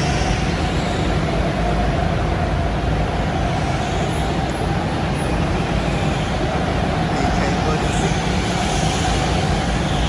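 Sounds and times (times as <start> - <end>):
steady mechanical drone: 0.0 - 10.0.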